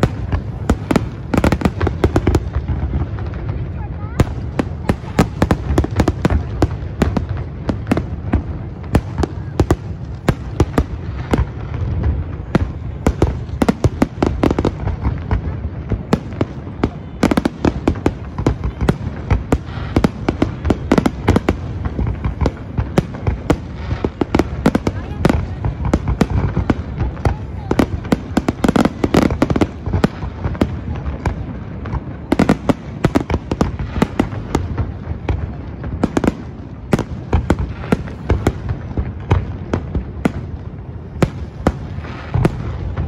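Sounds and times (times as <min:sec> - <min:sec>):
fireworks bangs and pops: 0:00.0 - 0:43.0.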